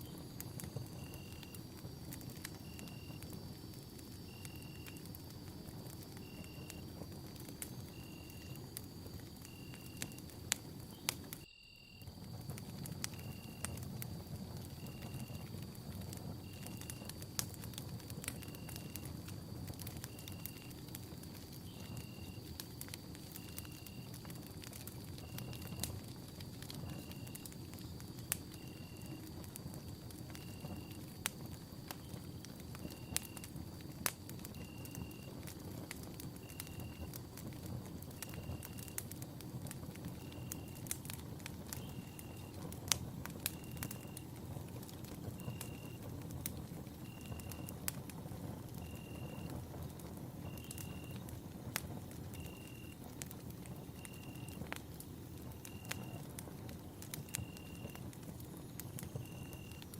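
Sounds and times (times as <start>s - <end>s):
campfire crackling and popping: 0.0s - 59.9s
crickets trilling and chirping: 0.0s - 59.9s.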